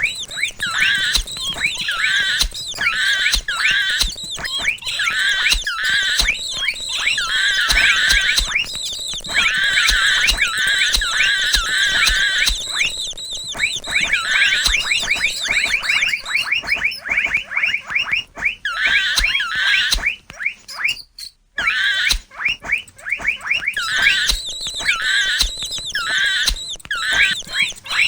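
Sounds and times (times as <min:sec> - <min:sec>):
mouse squeaking: 0:00.0 - 0:28.0.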